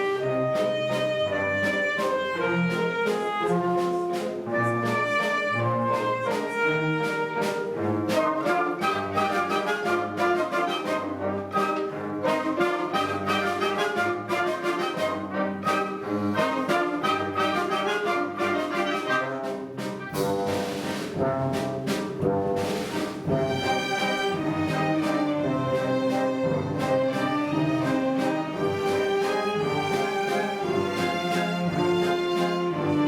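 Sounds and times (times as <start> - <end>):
orchestra playing a waltz: 0.0 - 33.0.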